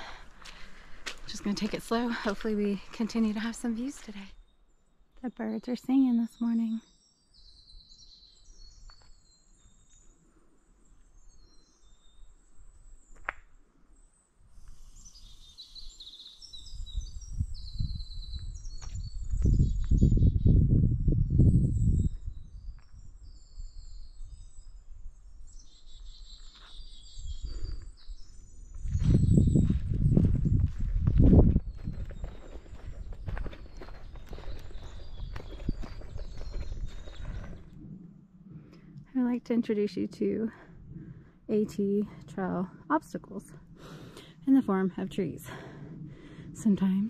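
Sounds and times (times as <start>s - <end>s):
songbirds trilling and chirping: 0.0s - 47.0s.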